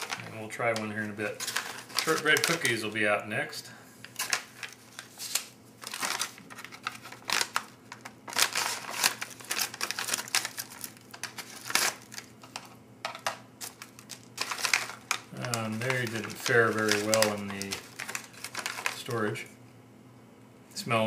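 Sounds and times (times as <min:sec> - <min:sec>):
plastic foil pouch crinkling: 0:00.0 - 0:03.1, 0:04.0 - 0:19.4.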